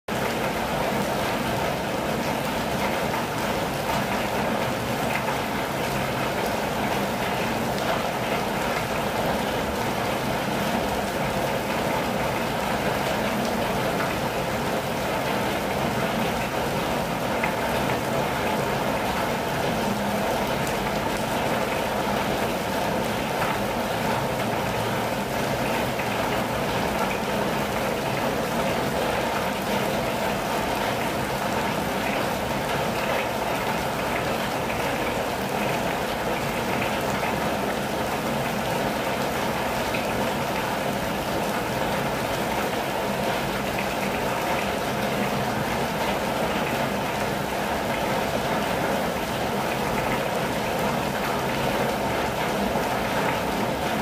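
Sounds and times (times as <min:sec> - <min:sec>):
rain hissing on a van roof: 0:00.1 - 0:54.0.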